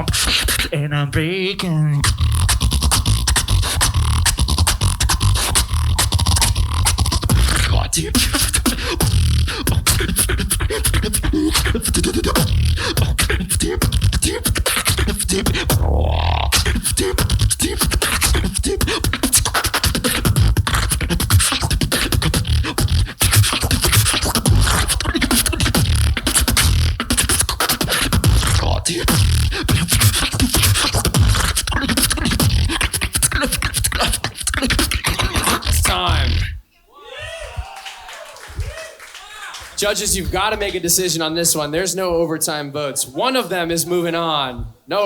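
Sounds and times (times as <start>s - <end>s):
person beatboxing: 0.0s - 36.7s, 39.8s - 42.2s.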